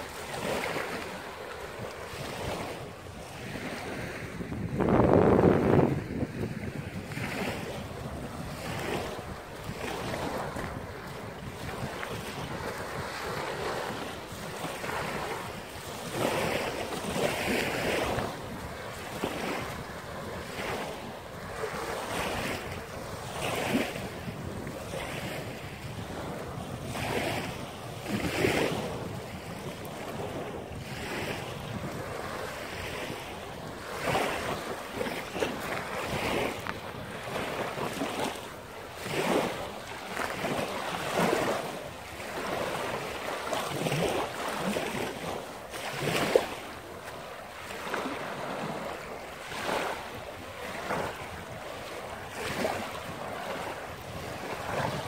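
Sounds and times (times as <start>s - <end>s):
small waves breaking on shore: 0.0s - 55.0s
wind buffeting microphone: 0.0s - 55.0s.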